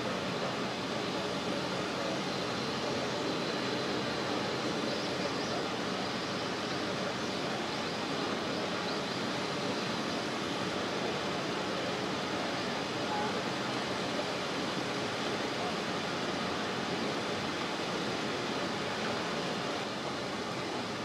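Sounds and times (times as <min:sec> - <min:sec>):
hiss: 0:00.0 - 0:21.0.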